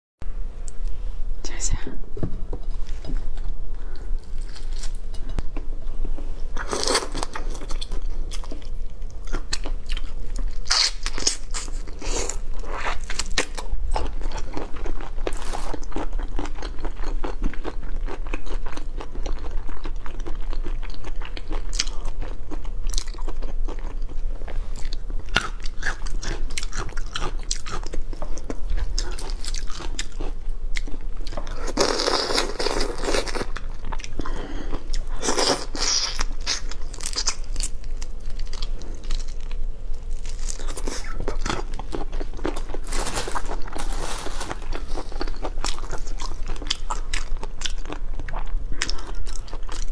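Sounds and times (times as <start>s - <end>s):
crunching and chewing shrimp: 3.4s - 5.7s, 6.6s - 49.9s.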